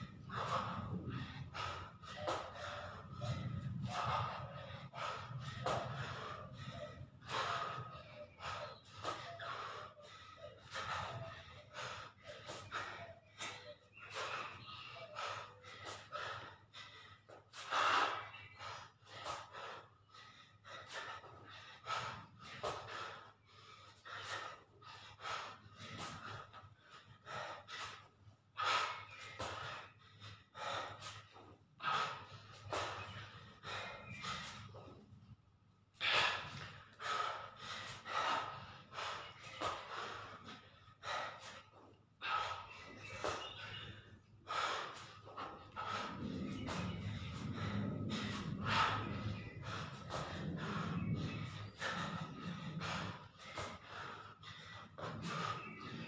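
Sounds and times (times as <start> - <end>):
man breathing hard: 0.0 - 56.0.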